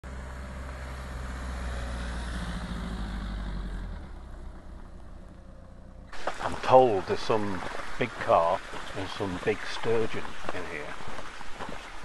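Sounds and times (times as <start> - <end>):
van engine driving on gravel: 0.1 - 12.0.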